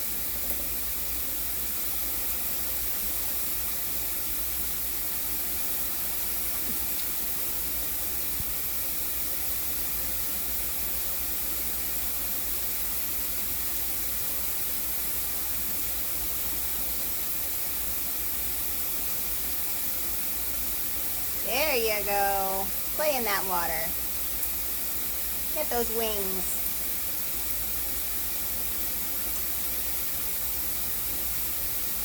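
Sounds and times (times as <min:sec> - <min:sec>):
shower spray hissing: 0:00.0 - 0:32.0.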